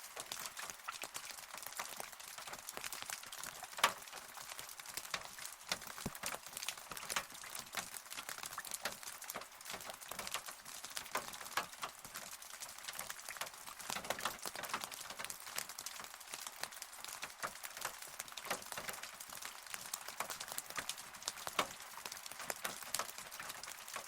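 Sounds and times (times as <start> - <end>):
rain tapping on a surface: 0.0 - 24.0.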